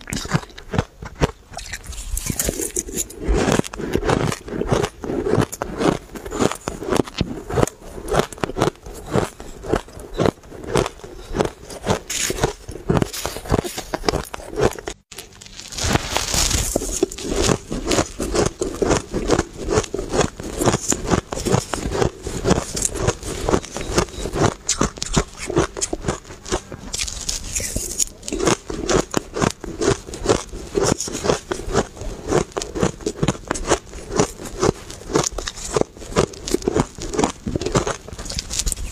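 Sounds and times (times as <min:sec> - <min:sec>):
crunching shaved ice: 0:00.0 - 0:38.9.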